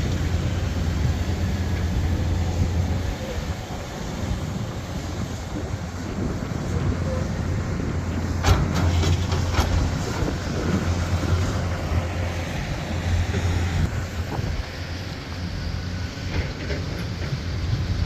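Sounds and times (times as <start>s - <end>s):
wind on microphone: 0.0s - 14.8s
vehicle engine rumble: 0.0s - 18.0s.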